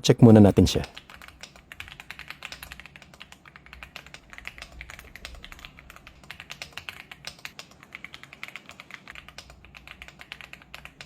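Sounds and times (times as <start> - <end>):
mechanical keyboard typing: 0.6 - 11.0.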